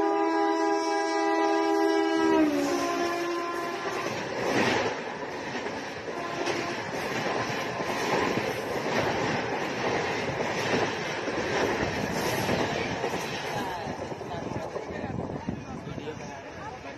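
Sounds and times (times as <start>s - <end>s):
train wheels rumbling on rails: 0.0s - 16.9s
train clatter: 2.5s - 16.7s.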